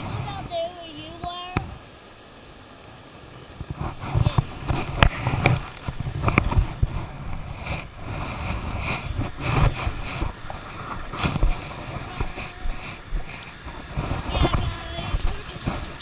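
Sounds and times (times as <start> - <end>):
wind buffeting microphone: 0.0 - 1.9, 3.1 - 16.0.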